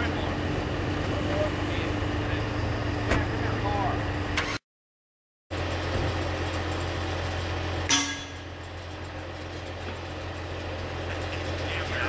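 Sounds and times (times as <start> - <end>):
heavy equipment engines droning: 0.0 - 4.6, 5.5 - 12.0.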